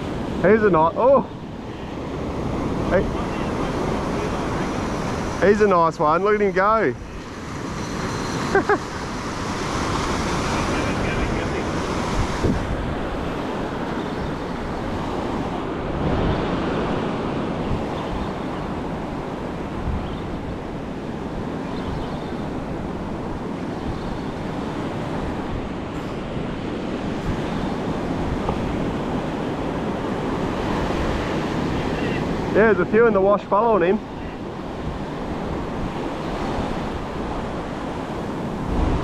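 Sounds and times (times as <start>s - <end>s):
surf washing up a beach: 0.0s - 39.0s.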